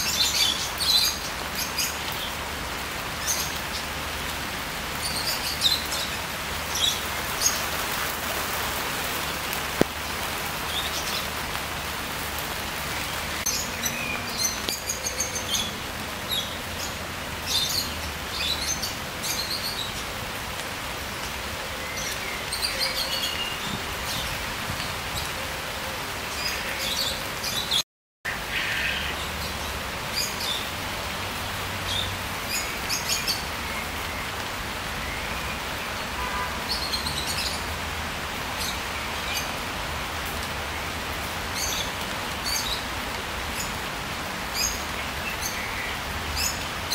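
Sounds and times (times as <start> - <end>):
rain falling on trees: 0.0 - 46.9.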